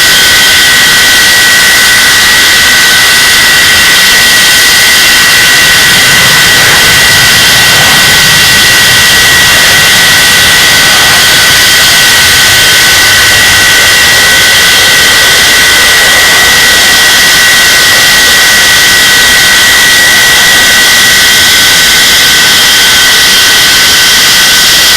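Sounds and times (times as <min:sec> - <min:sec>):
high whining tones: 0:00.0 - 0:24.9
jet engine running: 0:00.0 - 0:24.9.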